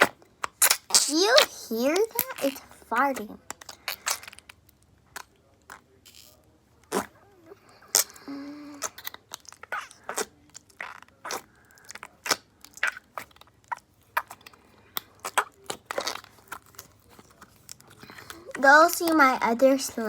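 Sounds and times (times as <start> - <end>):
slime squelching and popping: 0.0 - 20.0.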